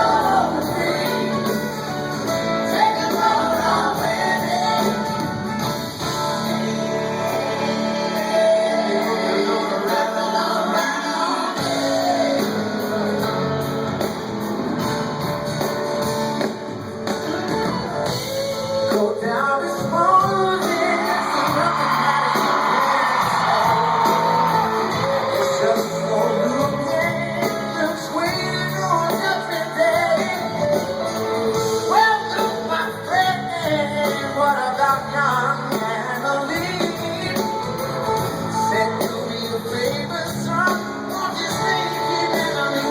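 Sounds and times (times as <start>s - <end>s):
lead singer singing: 0.0s - 14.2s, 18.3s - 42.9s
live rock band playing: 0.0s - 42.9s.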